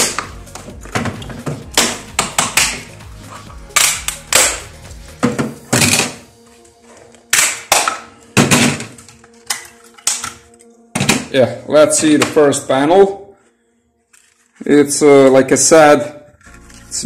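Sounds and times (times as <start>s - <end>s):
faint music: 0.0s - 17.0s.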